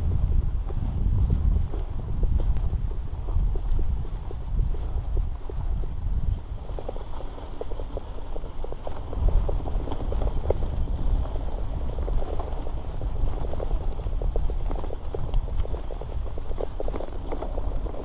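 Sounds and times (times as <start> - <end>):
bike tyres rattling on rough ground: 0.0 - 18.0
wind rumble on microphone: 0.0 - 18.0.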